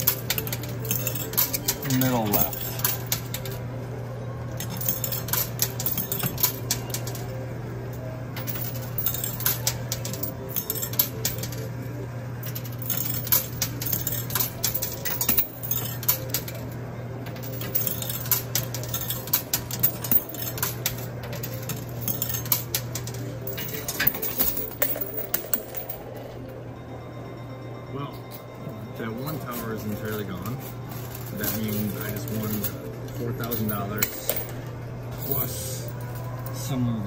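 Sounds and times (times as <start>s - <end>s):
coins clinking in coin pusher: 0.0s - 3.8s, 4.4s - 26.7s, 28.1s - 36.8s.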